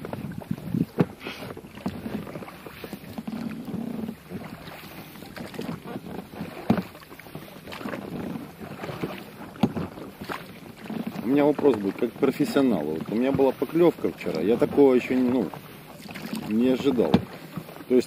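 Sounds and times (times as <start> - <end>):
oar knocks: 0.0 - 7.0, 7.7 - 17.6
oars splashing in choppy water: 0.0 - 18.0
wind: 0.0 - 18.0.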